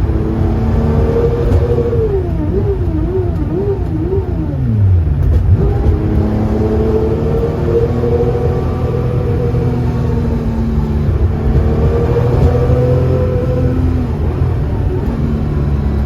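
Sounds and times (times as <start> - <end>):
car engine running with whirring: 0.0 - 16.0.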